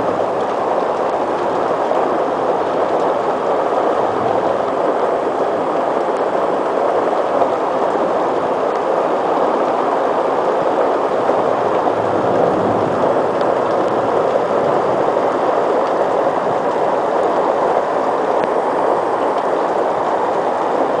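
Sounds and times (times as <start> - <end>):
heavy rain pouring: 0.0 - 21.0
raindrop ticks: 0.0 - 21.0.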